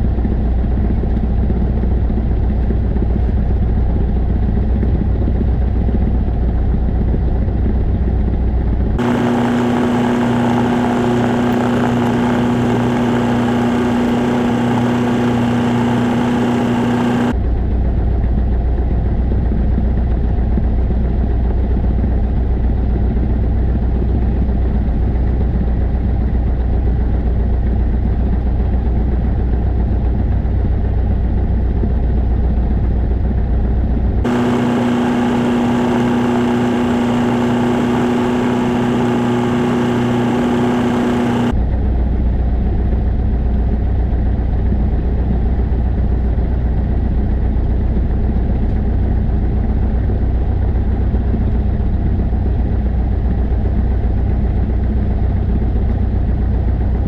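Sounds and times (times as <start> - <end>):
light aircraft engine idling: 0.0 - 57.0.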